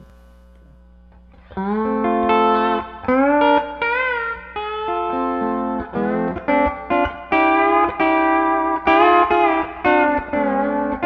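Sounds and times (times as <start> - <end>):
electric lap steel guitar chords: 0.0 - 11.0.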